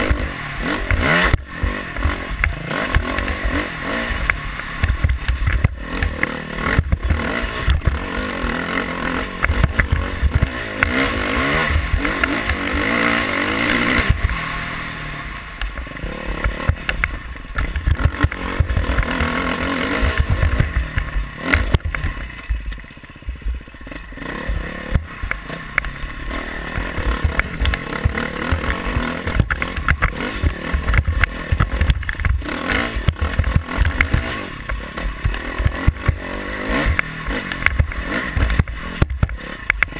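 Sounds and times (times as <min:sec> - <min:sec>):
bike knocks and clatter: 0:00.0 - 0:08.1, 0:09.3 - 0:13.0, 0:15.6 - 0:24.0, 0:26.7 - 0:39.9
dirt bike engine revving: 0:00.0 - 0:39.9.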